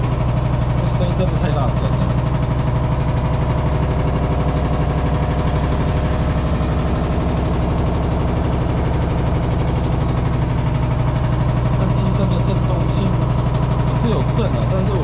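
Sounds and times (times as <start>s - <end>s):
rattling inside washer tub: 0.0s - 15.0s
washing machine spinning: 0.0s - 15.0s.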